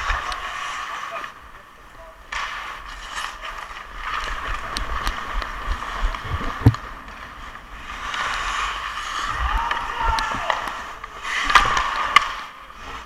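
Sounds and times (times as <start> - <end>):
skates scraping on ice: 0.0 - 13.0.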